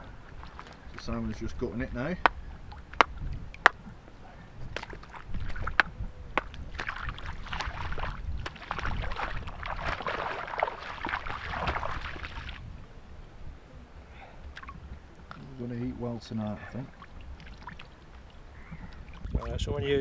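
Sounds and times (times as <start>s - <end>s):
water splashing and sloshing: 0.0s - 12.7s, 14.4s - 20.0s.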